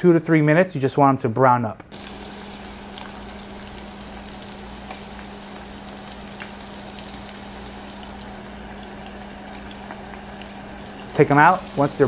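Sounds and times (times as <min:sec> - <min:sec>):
food deep-frying in hot oil: 0:01.9 - 0:12.0
low steady hum: 0:01.9 - 0:12.0.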